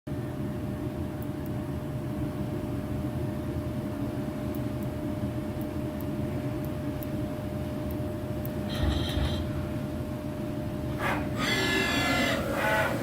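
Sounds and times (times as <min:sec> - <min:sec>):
low machinery rumble: 0:00.1 - 0:13.0
mid-pitched machine whine: 0:00.1 - 0:13.0.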